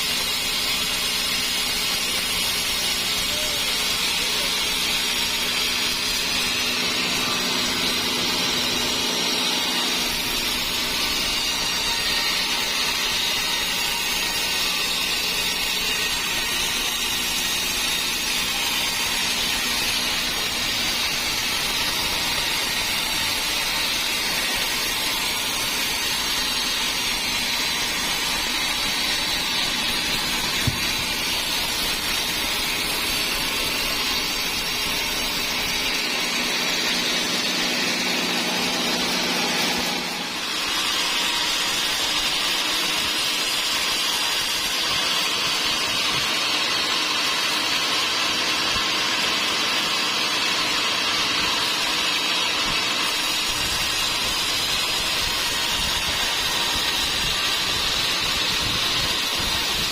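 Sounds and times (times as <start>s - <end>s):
saw cutting wood: 0.0s - 59.9s.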